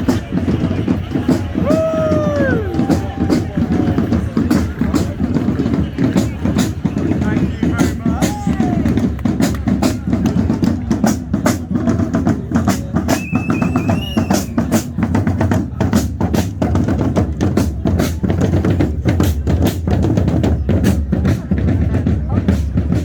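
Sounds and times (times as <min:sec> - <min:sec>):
bass and snare drums beating: 0:00.0 - 0:23.0.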